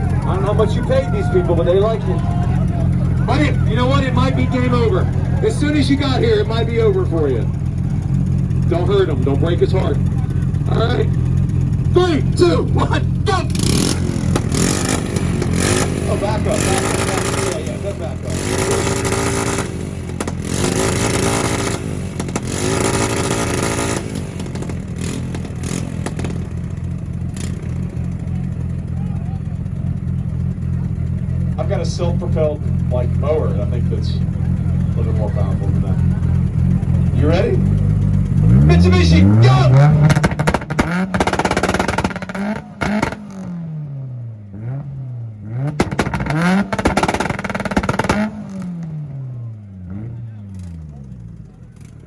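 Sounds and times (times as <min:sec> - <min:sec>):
exhaust pops and crackles: 0:00.0 - 0:43.7, 0:44.4 - 0:52.0
car engine revving on limiter: 0:00.0 - 0:52.0.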